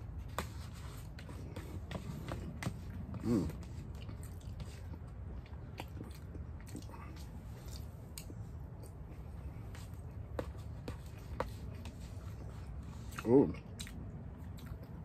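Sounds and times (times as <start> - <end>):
person chewing rice: 0.2 - 15.0.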